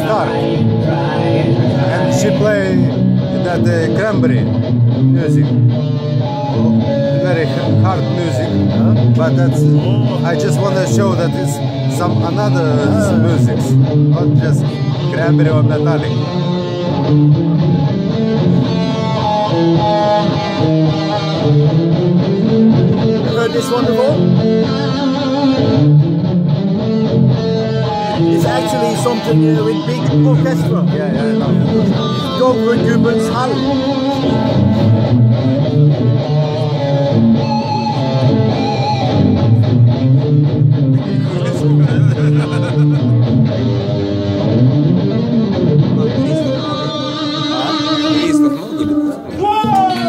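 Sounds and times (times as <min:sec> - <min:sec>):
electric guitar held notes: 0:00.0 - 0:50.0.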